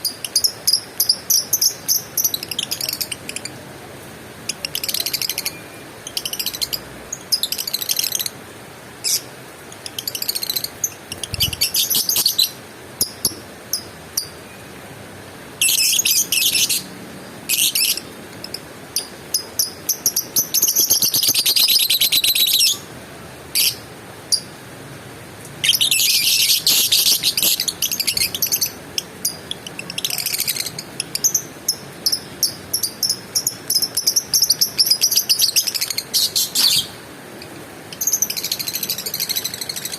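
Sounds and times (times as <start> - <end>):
lovebird chattering and trilling: 0.0 - 3.6, 4.5 - 8.4, 9.0 - 14.4, 15.6 - 16.9, 17.5 - 22.9, 25.6 - 39.9.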